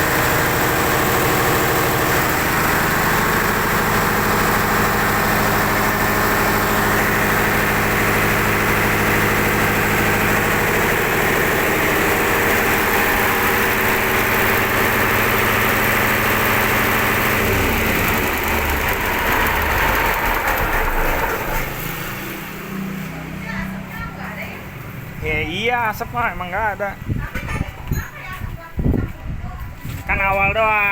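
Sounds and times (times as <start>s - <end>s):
diesel engine running: 0.0s - 26.7s.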